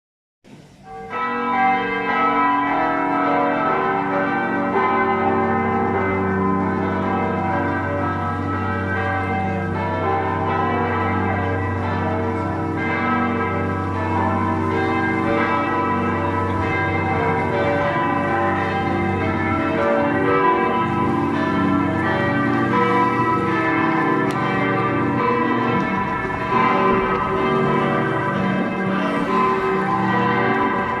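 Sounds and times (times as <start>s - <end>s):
church bells pealing: 0.6s - 31.0s.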